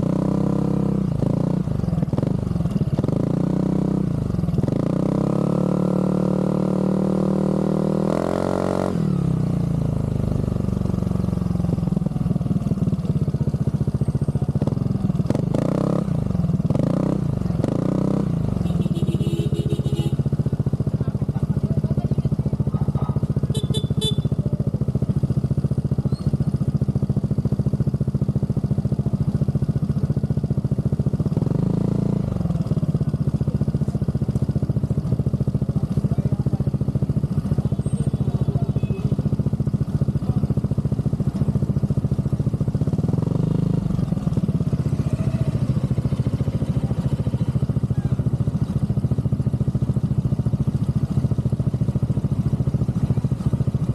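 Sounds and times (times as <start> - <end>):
scooter engine idling: 0.0 - 7.8, 8.9 - 53.9.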